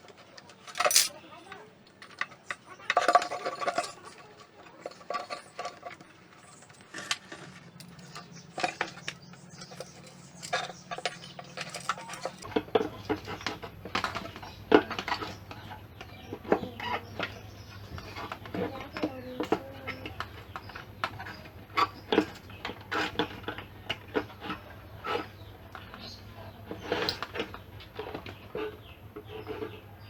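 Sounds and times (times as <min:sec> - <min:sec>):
metal tools clinking: 0:00.4 - 0:25.2.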